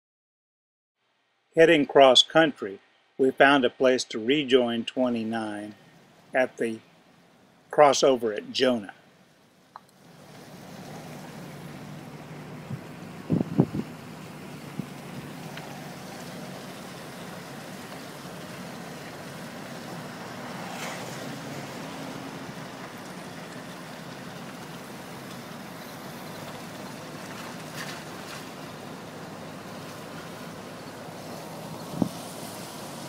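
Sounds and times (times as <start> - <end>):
car road and engine noise: 2.0 - 33.0.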